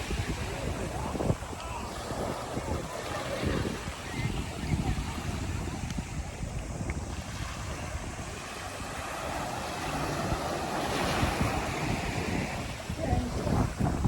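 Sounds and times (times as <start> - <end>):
ocean waves breaking: 0.0 - 14.0
wind buffeting microphone: 0.0 - 14.0.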